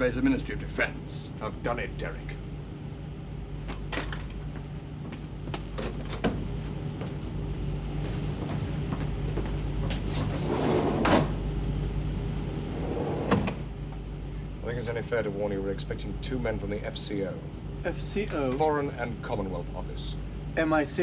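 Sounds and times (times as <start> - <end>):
ship machinery hum: 0.0 - 21.0.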